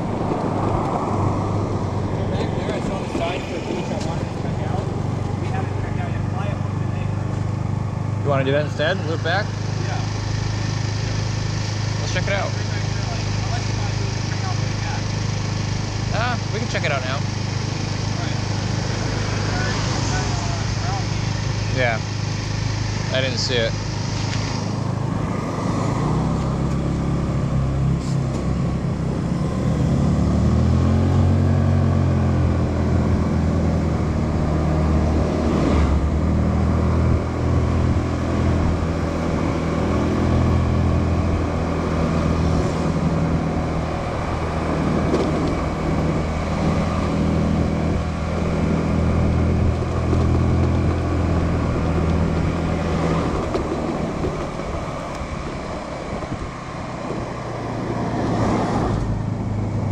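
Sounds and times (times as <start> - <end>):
small motorbike engine revving: 2.2 - 59.9.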